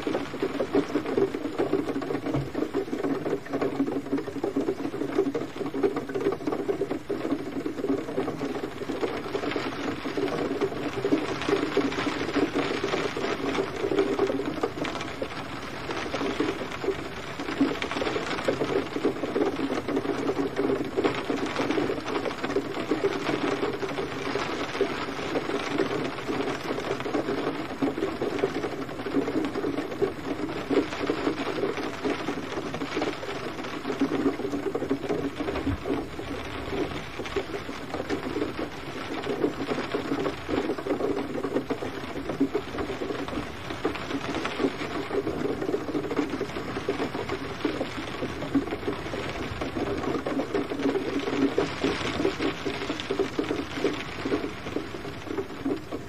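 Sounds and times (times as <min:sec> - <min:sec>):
gentle rain patter: 0:00.0 - 0:56.0.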